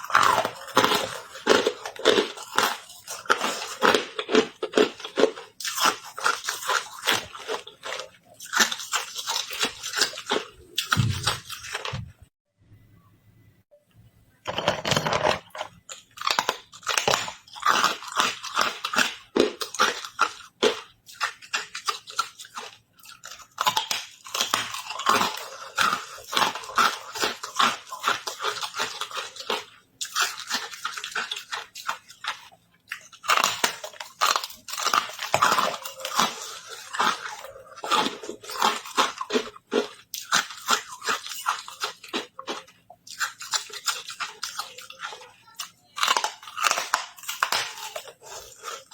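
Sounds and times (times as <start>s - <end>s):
ice crunching being chewed: 0.0s - 12.1s, 14.5s - 48.9s.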